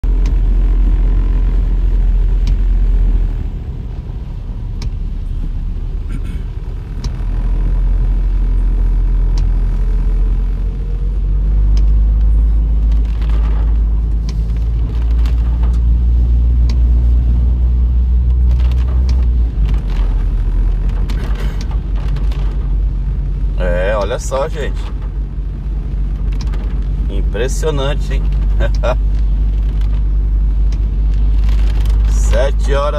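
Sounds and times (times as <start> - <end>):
engine and tyres rumbling: 0.0 - 32.9
rain tapping on windscreen: 0.0 - 32.9.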